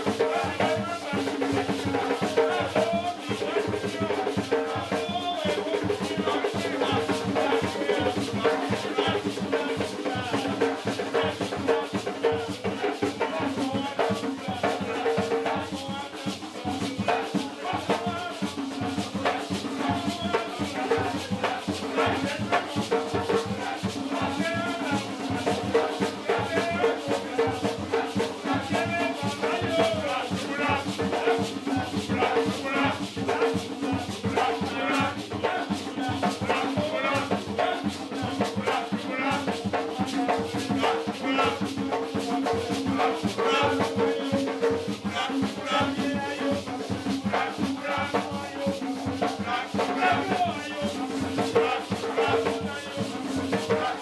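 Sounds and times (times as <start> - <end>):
answering chorus: 0.0 - 54.0
drums in steady rhythm: 0.0 - 54.0
improvised drum strikes: 0.0 - 54.0
lead singer chanting: 0.0 - 54.0.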